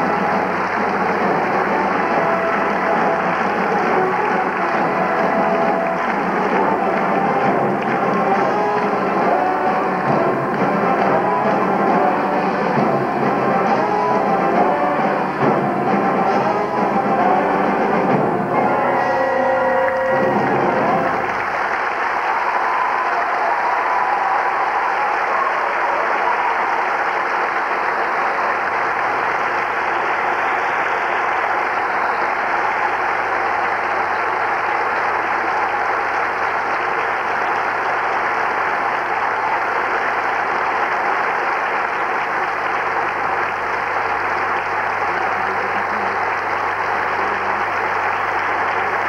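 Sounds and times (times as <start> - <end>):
audience applauding: 0.0 - 49.0.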